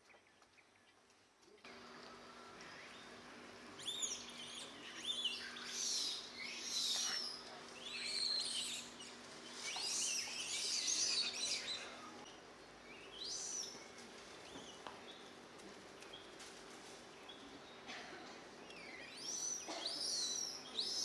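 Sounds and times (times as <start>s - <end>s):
wild birds calling: 1.7s - 16.4s, 17.0s - 21.0s.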